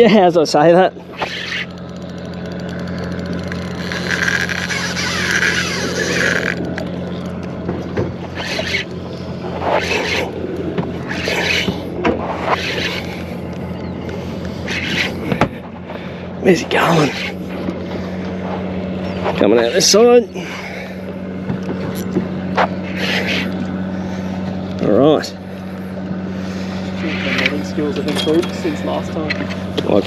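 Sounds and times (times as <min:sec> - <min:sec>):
boat motor humming: 0:00.0 - 0:30.0
fishing reel whirring: 0:00.0 - 0:30.0.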